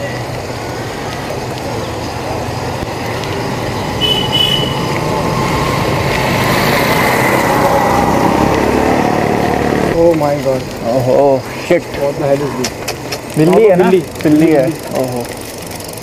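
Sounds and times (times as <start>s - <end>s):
bicycle road noise: 0.0s - 16.0s.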